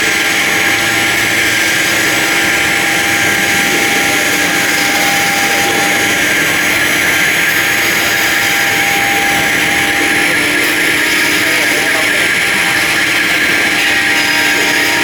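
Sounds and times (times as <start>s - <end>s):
cnc router running: 0.0s - 15.0s.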